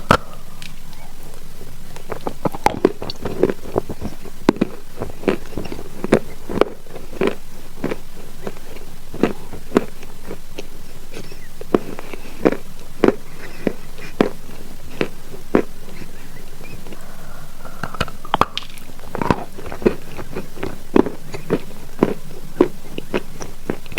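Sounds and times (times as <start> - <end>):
chalk being chewed crunching: 0.0 - 23.9
steady hiss: 0.0 - 23.9.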